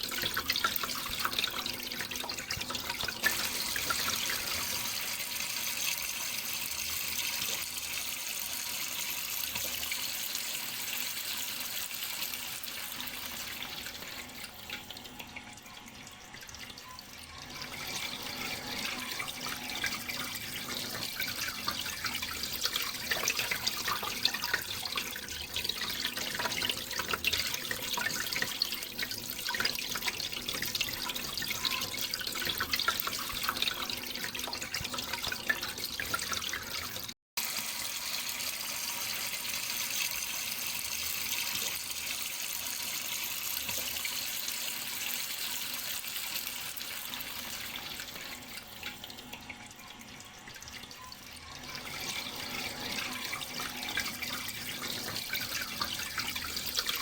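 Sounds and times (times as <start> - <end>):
running water splashing and trickling: 0.0 - 57.0.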